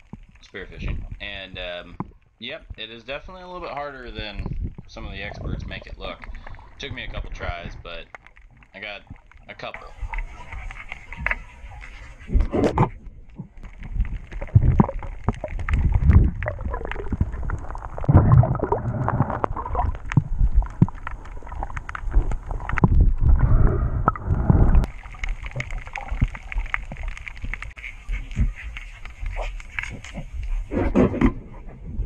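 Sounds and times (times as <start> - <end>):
water sloshing and gurgling: 0.0 - 32.0.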